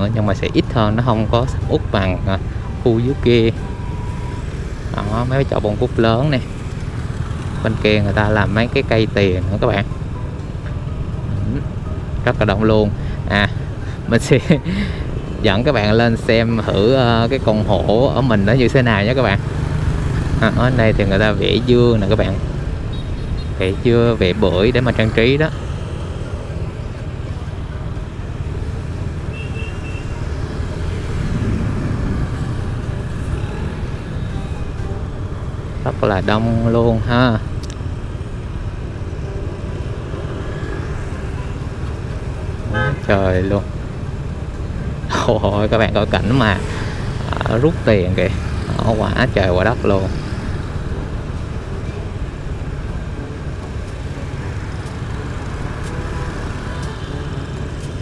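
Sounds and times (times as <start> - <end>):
traffic engines rumbling: 0.0 - 58.0.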